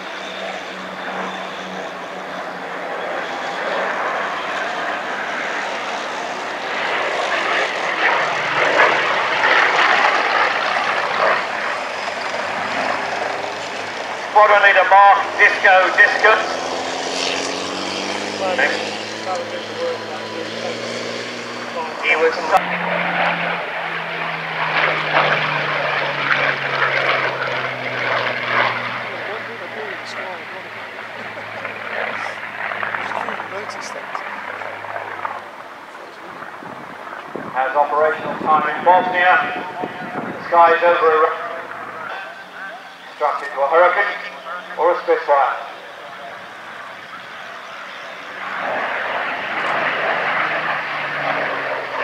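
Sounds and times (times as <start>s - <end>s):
propeller plane flying past: 0.0s - 52.0s.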